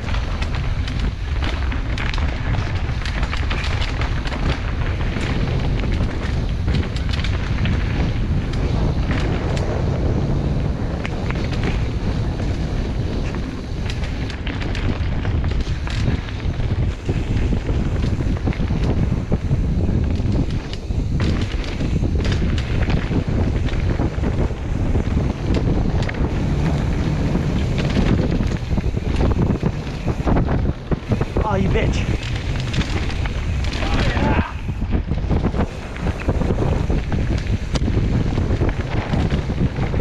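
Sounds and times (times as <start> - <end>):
bike clicking and knocking: 0.0 - 40.0
tyre rumble on dirt: 0.0 - 40.0
wind buffeting microphone: 0.0 - 40.0.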